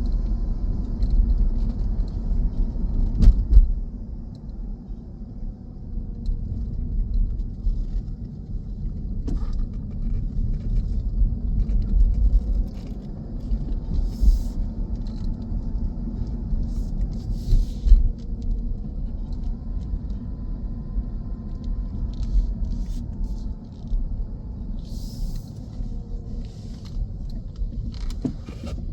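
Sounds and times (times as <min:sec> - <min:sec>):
car rumbling on road: 0:00.0 - 0:28.9
faint engine hum: 0:00.0 - 0:28.9.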